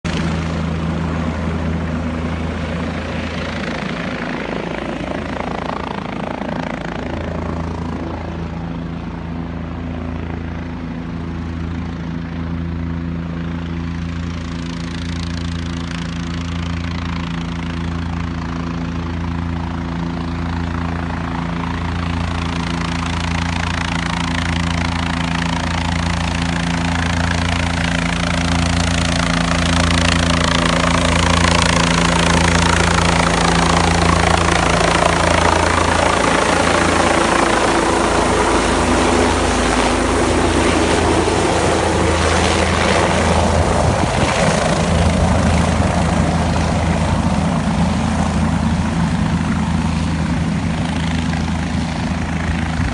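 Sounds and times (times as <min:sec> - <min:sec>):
helicopter flying low: 0:00.0 - 0:52.9.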